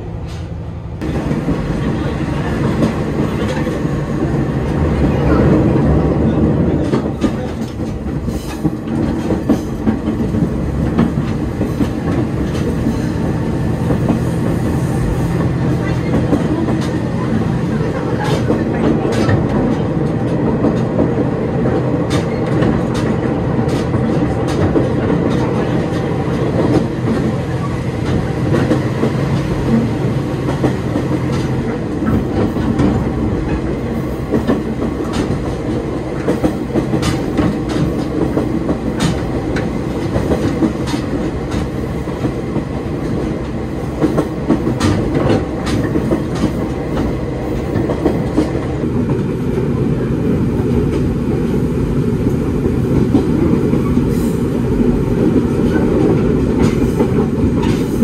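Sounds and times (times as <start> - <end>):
railcar engine drone: 0.0 - 58.0
rush of moving train: 0.0 - 58.0.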